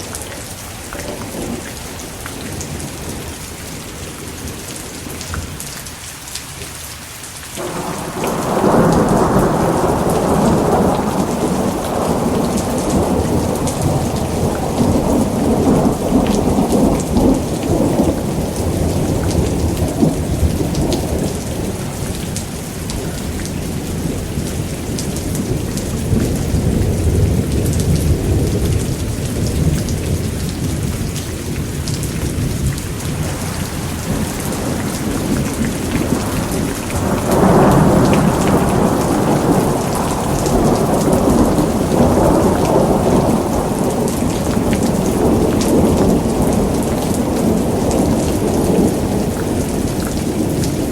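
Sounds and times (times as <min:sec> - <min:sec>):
heavy rain: 0:00.0 - 0:50.9
rolling thunder: 0:07.6 - 0:50.9.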